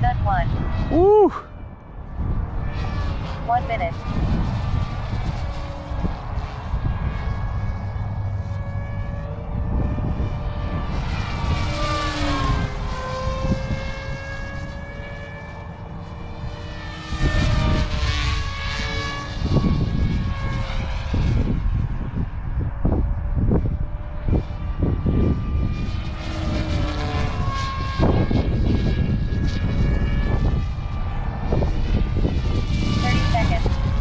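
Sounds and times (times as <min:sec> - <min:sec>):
rc helicopter rotor whine: 0:00.0 - 0:34.0.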